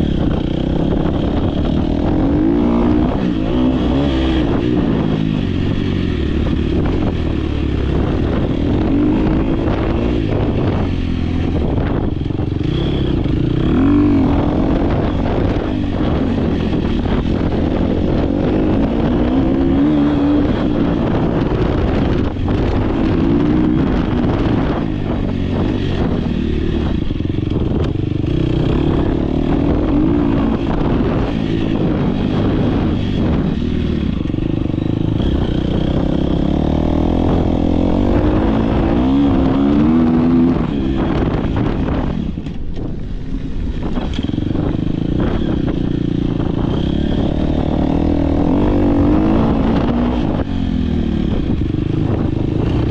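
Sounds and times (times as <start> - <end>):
dirt bike engine revving: 0.0 - 42.1, 43.9 - 52.9.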